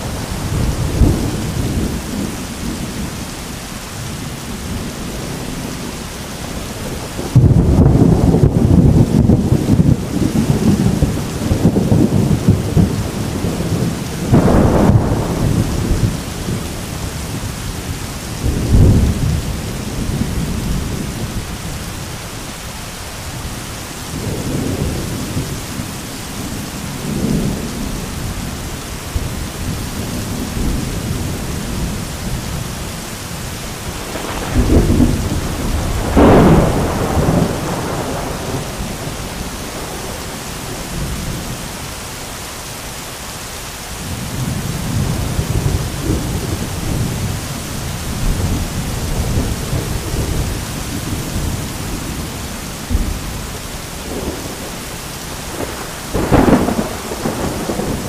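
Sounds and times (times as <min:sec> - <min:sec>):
thunder rumbling: 0:00.0 - 0:22.4, 0:23.4 - 0:42.0, 0:44.0 - 0:58.0
heavy rain pouring: 0:00.0 - 0:58.0.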